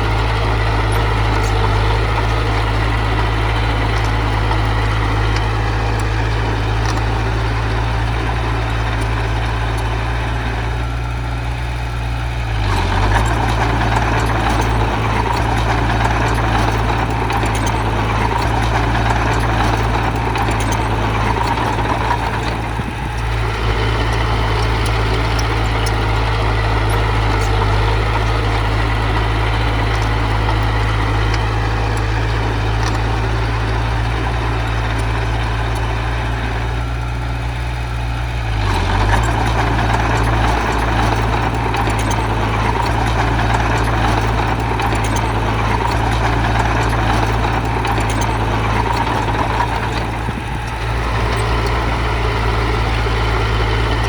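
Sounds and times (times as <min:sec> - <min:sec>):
earthmoving machine diesel engine: 0:00.0 - 0:54.0.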